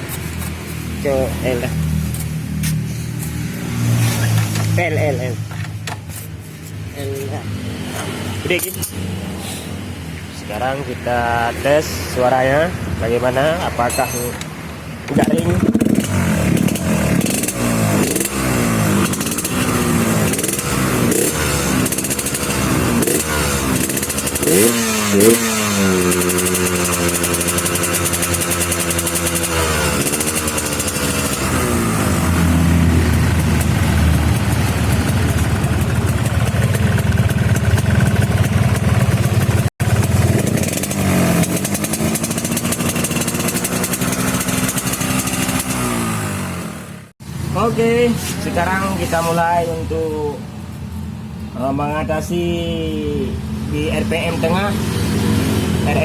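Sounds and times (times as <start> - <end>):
motorcycle engine revving: 0.0 - 50.4, 52.2 - 56.0.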